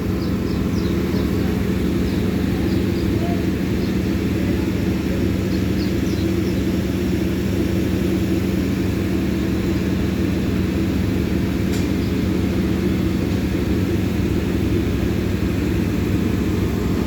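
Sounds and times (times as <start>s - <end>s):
generator engine drone: 0.0s - 17.0s.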